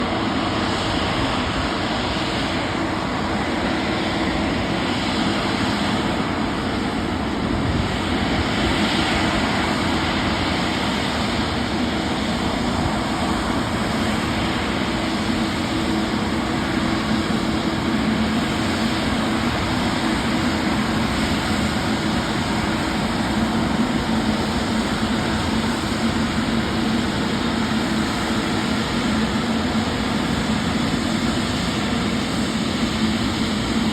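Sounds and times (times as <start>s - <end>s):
jet engines rushing: 0.0s - 33.9s.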